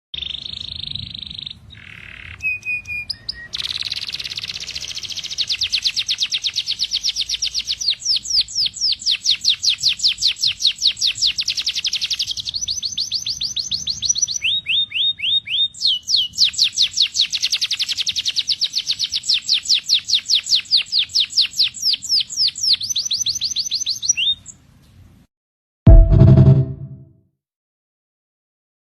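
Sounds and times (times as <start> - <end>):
canary singing fast trills: 0.2 - 24.6.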